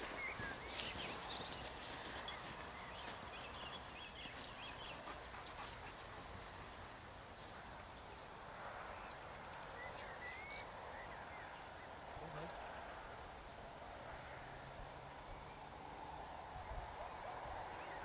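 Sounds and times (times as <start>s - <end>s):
low steady hiss: 0.0s - 18.0s.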